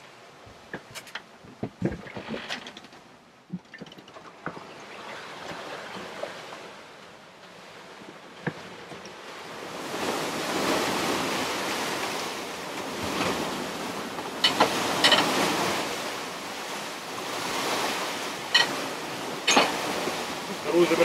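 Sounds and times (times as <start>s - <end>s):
waves breaking: 0.0s - 21.0s.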